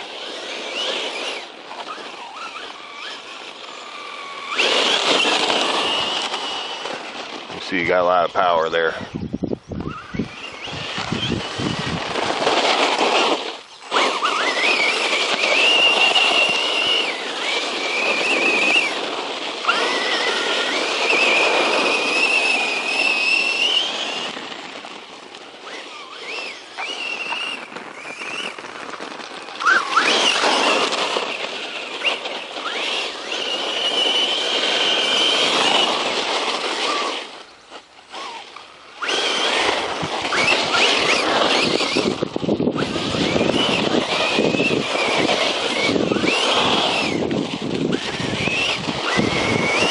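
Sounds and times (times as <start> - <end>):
tyres churning over dirt: 0.0 - 9.1, 9.8 - 49.9
electric motor whining: 0.0 - 49.9.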